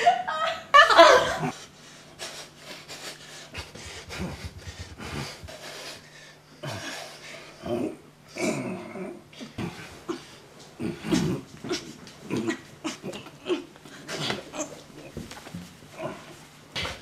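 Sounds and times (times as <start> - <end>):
faint steady low hum: 0.0 - 17.0.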